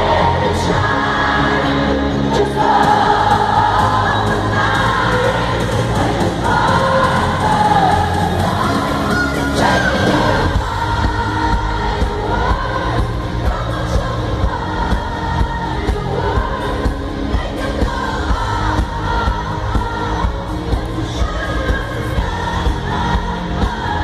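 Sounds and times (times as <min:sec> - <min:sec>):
crowd singing along: 0:00.0 - 0:24.0
woman singing lead: 0:00.0 - 0:24.0.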